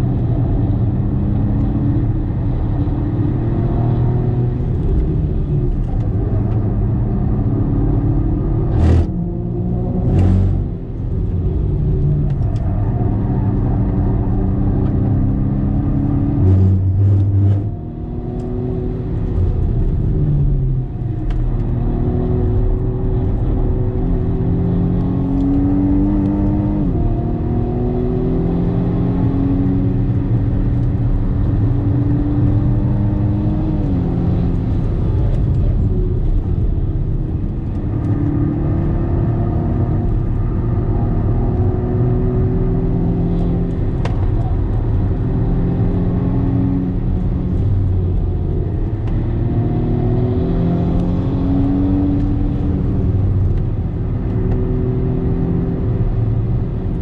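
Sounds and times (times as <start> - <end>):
car engine accelerating: 0.0 - 57.0
tyre and road rumble: 0.0 - 57.0.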